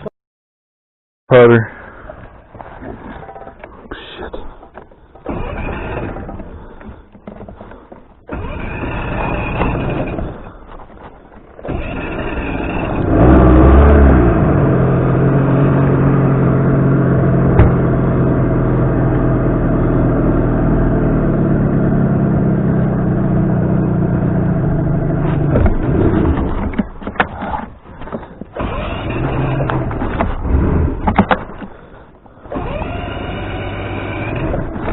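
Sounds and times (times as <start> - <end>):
outboard motor cranking: 1.9 - 34.9
outboard motor running: 4.5 - 34.9
motor sputtering: 4.7 - 22.1, 23.2 - 34.9.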